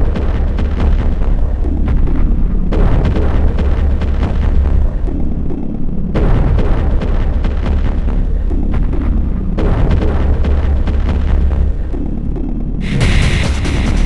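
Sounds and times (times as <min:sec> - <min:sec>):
dark heavy soundtrack music: 0:00.0 - 0:14.0.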